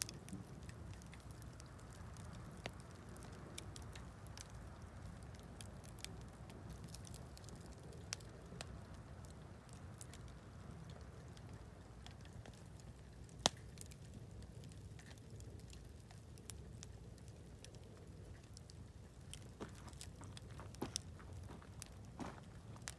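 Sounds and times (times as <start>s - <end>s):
campfire crackling and popping: 0.0s - 22.9s
faint low rumble: 0.0s - 22.9s.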